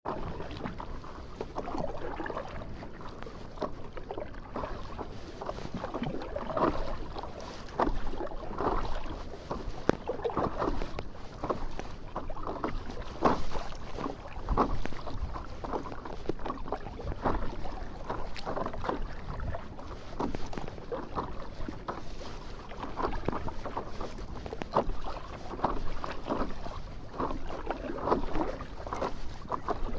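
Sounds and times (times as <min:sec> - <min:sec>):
wind rumbling on microphone: 0:00.0 - 0:29.9
sea water splashing: 0:00.1 - 0:29.9.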